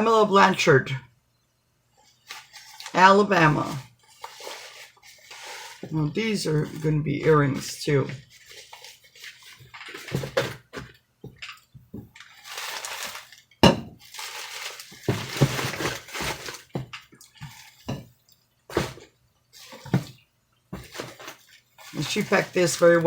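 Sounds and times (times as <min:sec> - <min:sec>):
packaging rustling and crinkling: 0:02.0 - 0:18.0, 0:18.7 - 0:23.0.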